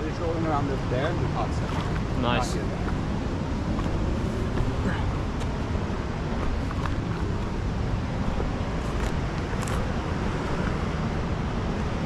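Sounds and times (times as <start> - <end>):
outboard motor rumbling: 0.0 - 12.0
rushing water: 0.0 - 12.0
wind: 0.0 - 12.0.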